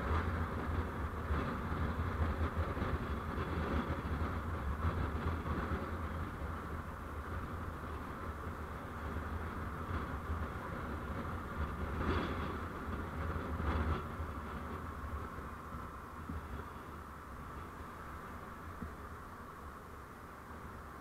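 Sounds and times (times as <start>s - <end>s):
vehicle road noise rumble: 0.0s - 21.0s.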